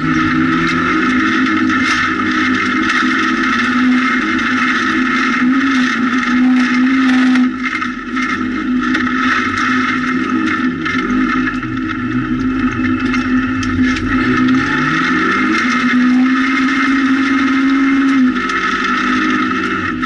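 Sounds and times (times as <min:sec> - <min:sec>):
car engine revving hard: 0:00.0 - 0:20.0
tyres on gravel: 0:00.0 - 0:20.0.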